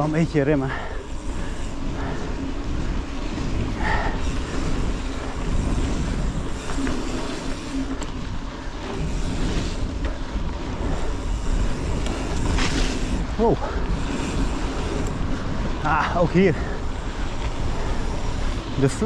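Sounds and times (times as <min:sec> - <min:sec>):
bike tyre rumble on dirt trail: 0:00.0 - 0:19.0
wind buffeting microphone: 0:00.0 - 0:19.0.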